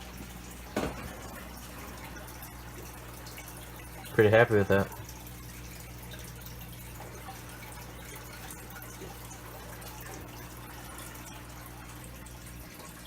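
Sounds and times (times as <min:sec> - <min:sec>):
aquarium water trickling: 0:00.0 - 0:13.0
low steady hum: 0:00.0 - 0:13.0.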